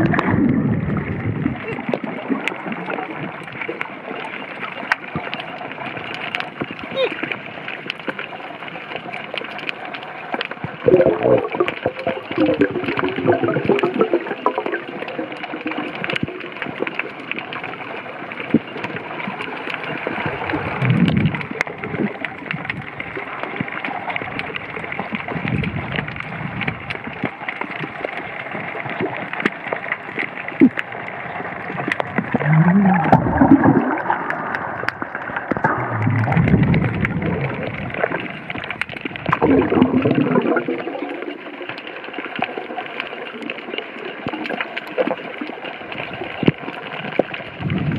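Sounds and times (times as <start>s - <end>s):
muffled underwater water noise: 0.0s - 47.9s.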